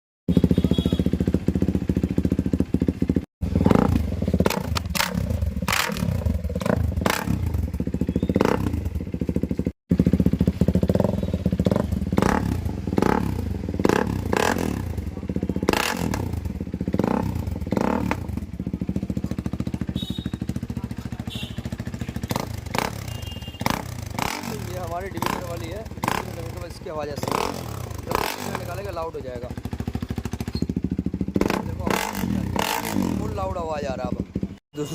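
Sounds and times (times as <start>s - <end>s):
motorcycle engine throttle blips: 0.3s - 34.9s.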